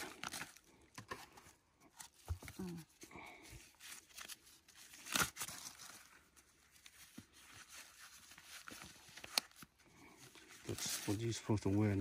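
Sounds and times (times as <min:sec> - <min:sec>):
rustling and crackling handling: 0:00.0 - 0:12.0.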